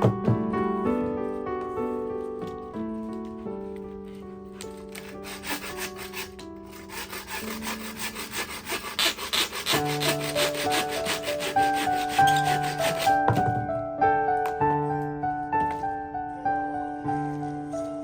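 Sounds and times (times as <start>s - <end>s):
background music with held notes: 0.0s - 18.0s.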